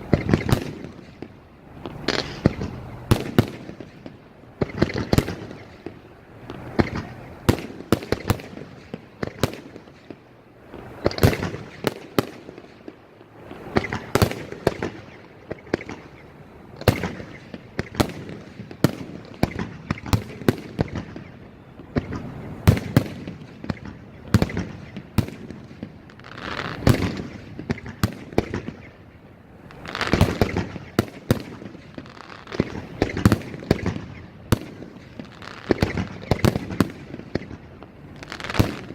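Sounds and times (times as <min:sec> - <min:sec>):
fireworks bangs: 0:00.0 - 0:16.2, 0:16.8 - 0:29.1, 0:29.7 - 0:38.9.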